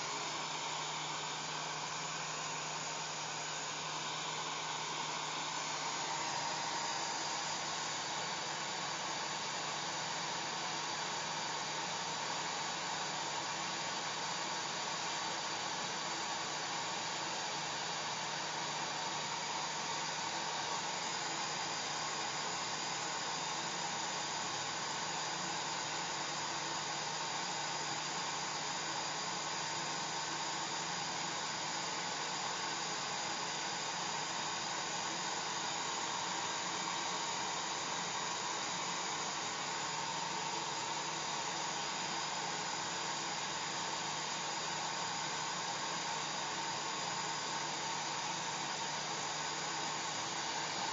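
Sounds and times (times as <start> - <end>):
faint steady hum: 0.0 - 50.9
hair dryer blowing air: 0.0 - 50.9.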